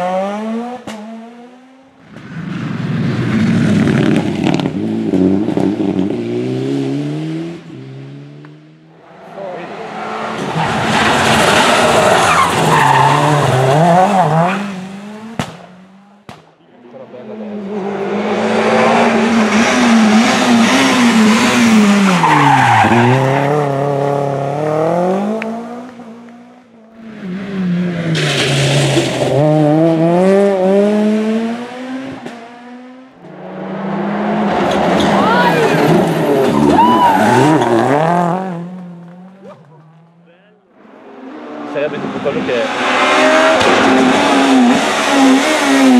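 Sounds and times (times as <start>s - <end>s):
rally cars passing at speed: 0.0s - 45.9s.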